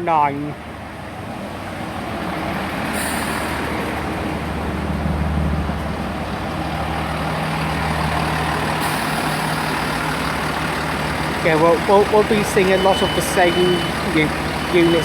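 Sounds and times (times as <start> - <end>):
diesel train engines humming: 0.0 - 15.0.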